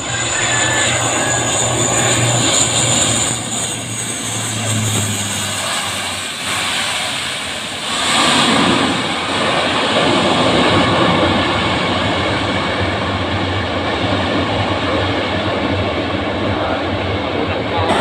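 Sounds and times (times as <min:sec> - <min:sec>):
turboprop engines roaring: 0:00.0 - 0:18.0.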